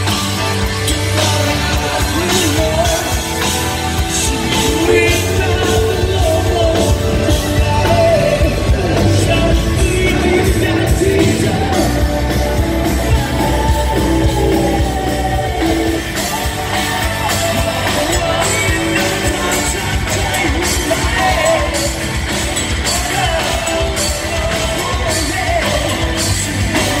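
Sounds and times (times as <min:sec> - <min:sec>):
lead singer singing: 0:00.0 - 0:27.0
rock band playing: 0:00.0 - 0:27.0.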